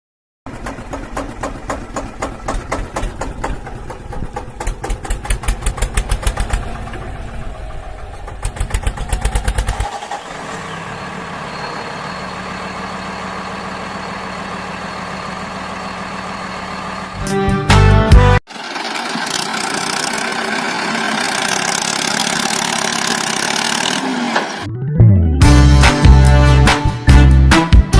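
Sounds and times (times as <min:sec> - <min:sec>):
tractor engine chugging: 0:00.5 - 0:17.2, 0:18.5 - 0:24.6.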